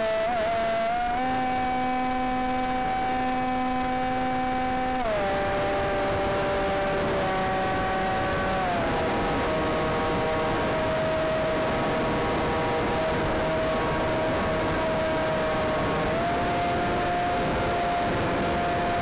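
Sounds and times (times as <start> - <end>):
electric motor and propeller whine: 0.0 - 19.0.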